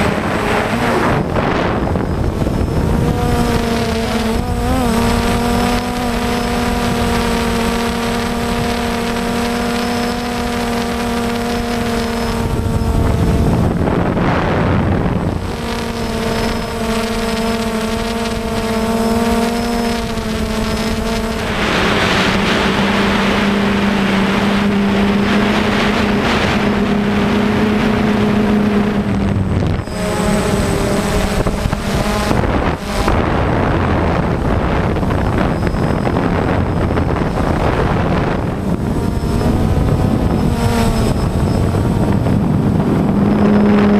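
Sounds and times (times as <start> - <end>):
drone propellers humming: 0.0 - 43.9
wind gusts on microphone: 0.0 - 43.9.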